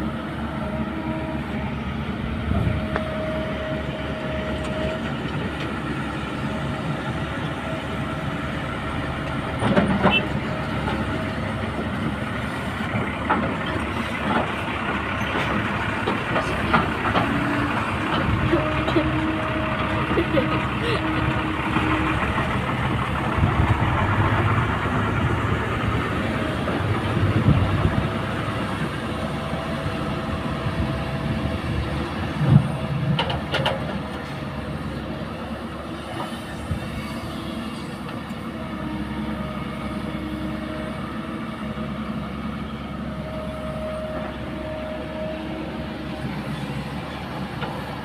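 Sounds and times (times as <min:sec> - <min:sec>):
excavator diesel engine under load: 0:00.0 - 0:48.0.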